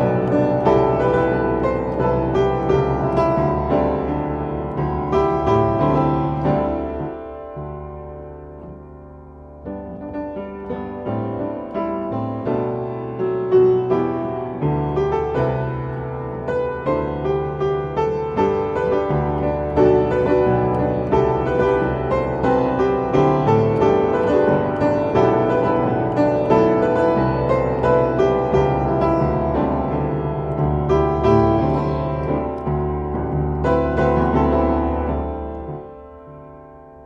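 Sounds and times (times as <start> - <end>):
solo piano ballad: 0.0 - 37.0.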